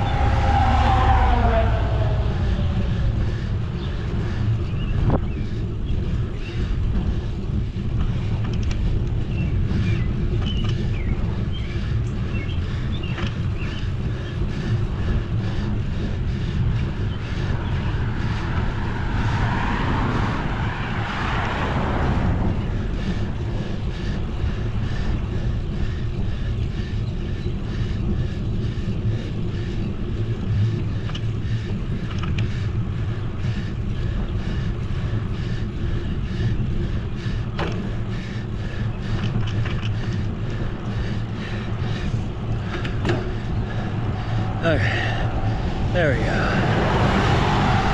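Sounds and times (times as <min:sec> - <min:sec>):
bicycle road noise: 0:00.0 - 0:47.9
wind rushing over microphone: 0:00.0 - 0:47.9.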